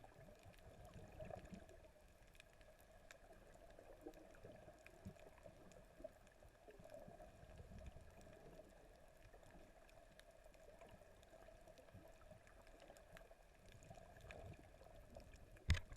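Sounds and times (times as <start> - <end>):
faint clicks: 0.3 - 15.9.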